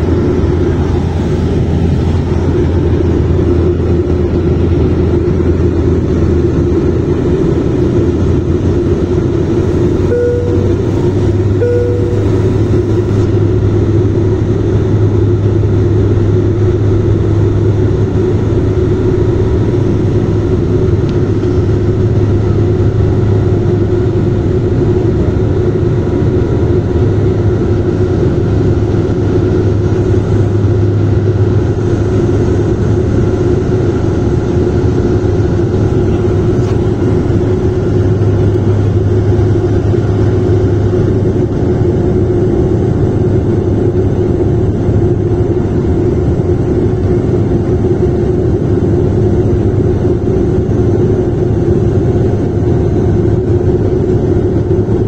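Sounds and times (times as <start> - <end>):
airliner engines droning: 0.0 - 55.0.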